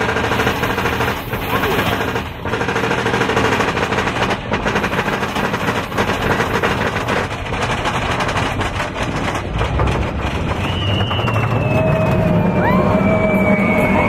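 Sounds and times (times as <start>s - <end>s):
roller coaster rattling on track: 0.0s - 14.0s.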